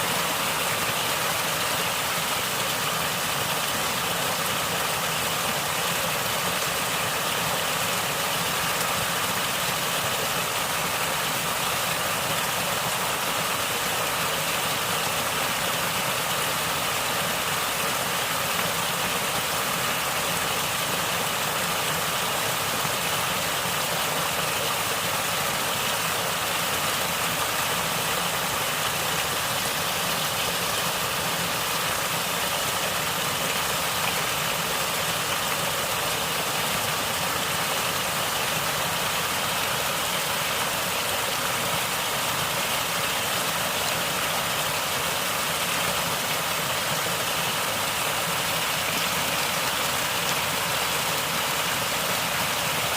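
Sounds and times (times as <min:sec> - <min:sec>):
stream water gurgling: 0:00.0 - 0:52.9.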